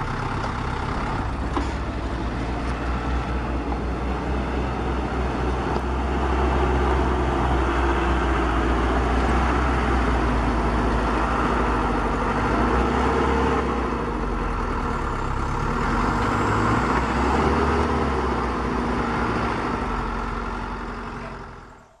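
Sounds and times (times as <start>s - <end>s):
model trucks engine drone: 0.0s - 22.0s.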